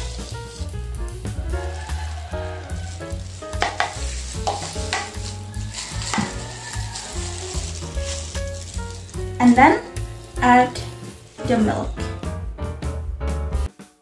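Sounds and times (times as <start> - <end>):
background music melody: 0.0 - 14.0.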